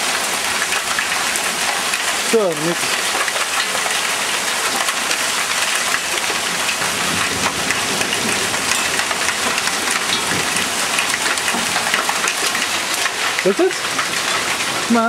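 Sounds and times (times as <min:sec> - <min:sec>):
hail and rain pelting roofs: 0:00.0 - 0:15.0.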